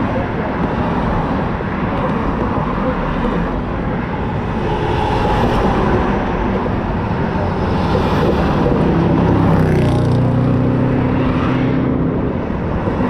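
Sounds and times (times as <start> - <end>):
wind noise: 0.0 - 11.3.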